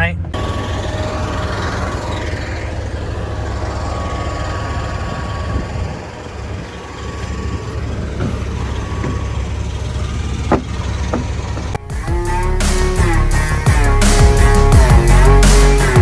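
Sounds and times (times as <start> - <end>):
large engine idling: 0.0 - 16.0.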